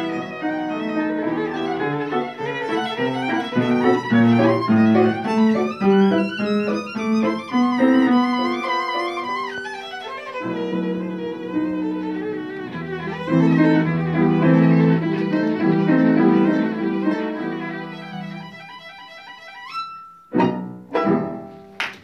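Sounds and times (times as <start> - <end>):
violin playing quick runs: 0.0 - 20.7
piano accompaniment: 0.0 - 22.0.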